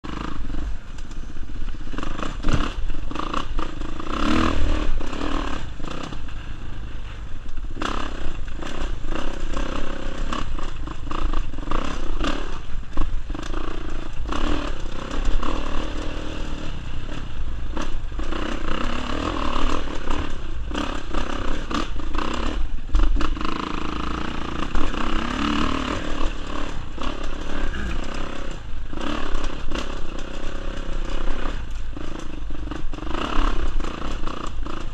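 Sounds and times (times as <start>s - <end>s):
dirt bike engine revving: 0.0s - 6.4s, 7.7s - 34.9s
bike knocks and rattles: 0.0s - 34.9s.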